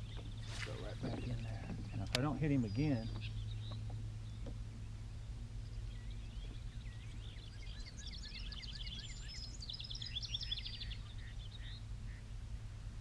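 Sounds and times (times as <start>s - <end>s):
songbirds chirping and trilling: 0.0s - 13.0s
steady low hum: 0.0s - 13.0s.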